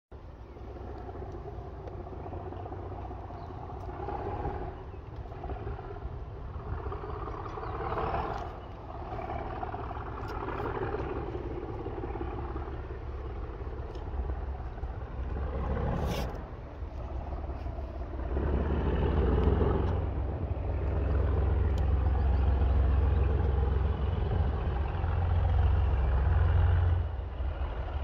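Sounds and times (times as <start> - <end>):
diesel locomotive engine rumbling: 0.1 - 28.0.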